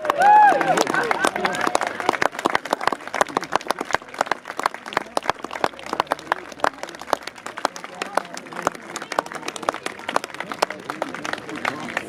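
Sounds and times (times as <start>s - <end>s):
small crowd applauding: 0.0s - 12.0s.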